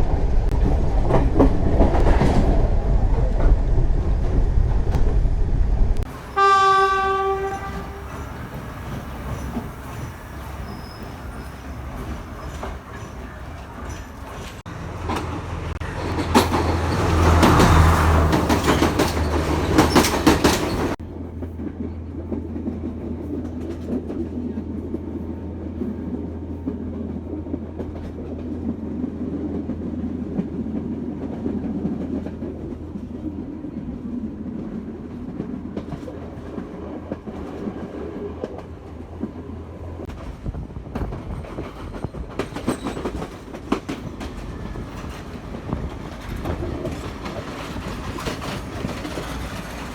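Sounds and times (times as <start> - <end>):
train clickety-clack on rails: 0.0 - 49.9.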